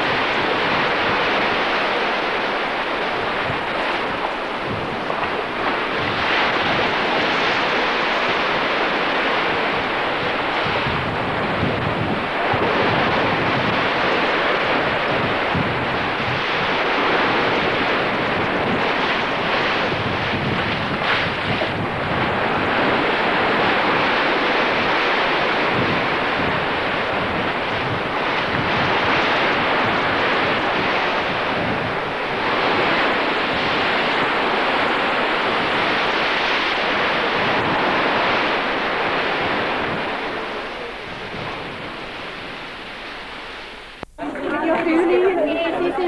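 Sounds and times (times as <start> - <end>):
sea surf washing: 0.0 - 46.0
wind: 0.0 - 46.0.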